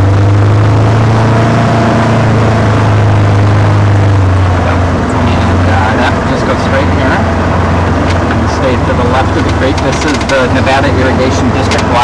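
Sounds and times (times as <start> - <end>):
atv engine droning: 0.0 - 12.0
road and ride noise: 0.0 - 12.0.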